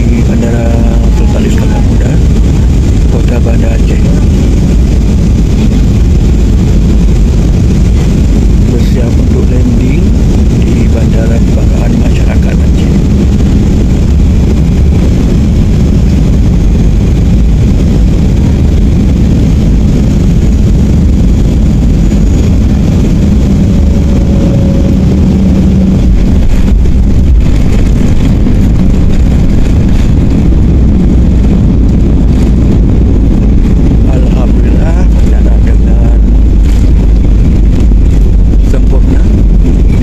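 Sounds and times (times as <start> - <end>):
jet engines and rushing air rumbling: 0.0 - 40.0.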